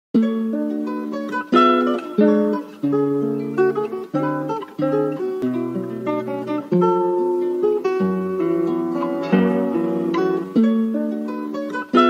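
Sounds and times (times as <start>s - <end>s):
plucked guitar melody: 0.2s - 12.0s.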